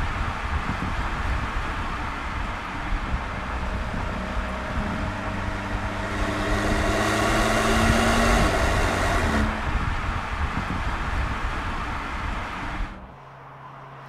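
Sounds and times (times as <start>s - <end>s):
tyre and wind noise: 0.0s - 13.2s
car engine at speed: 0.0s - 14.0s.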